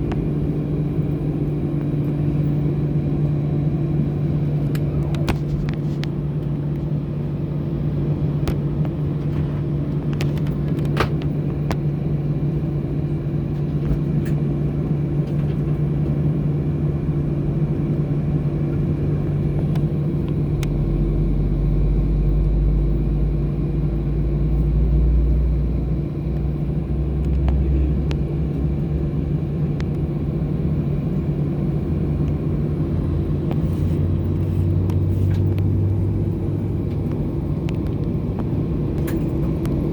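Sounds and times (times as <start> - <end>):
aircraft cabin hum: 0.0 - 39.9
deep rumble: 0.0 - 39.9.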